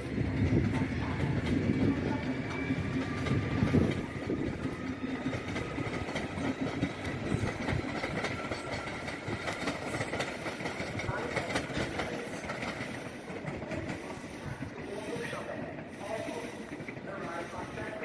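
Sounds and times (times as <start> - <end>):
electric train rolling past: 0.0 - 18.0
wheels clicking over rail joints: 3.0 - 18.0.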